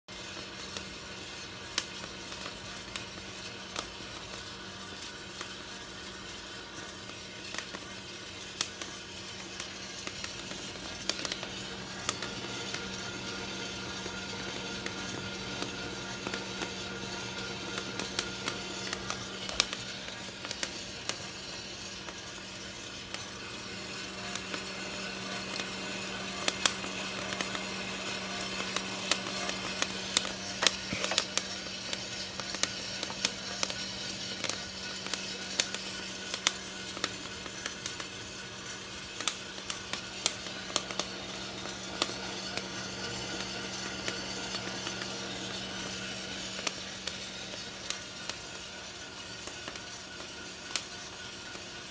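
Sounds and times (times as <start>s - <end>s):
coffee roaster motor hum: 0.0s - 51.9s
coffee beans popping: 0.1s - 51.9s.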